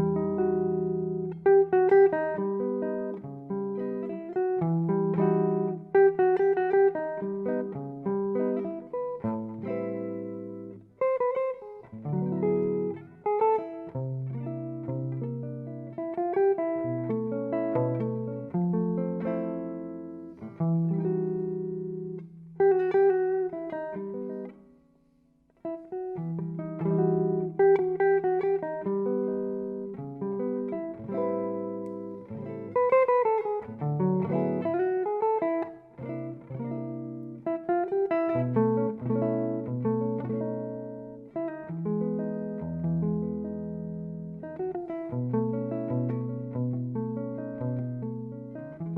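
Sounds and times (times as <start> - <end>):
plucked guitar notes and chords: 0.0 - 48.9.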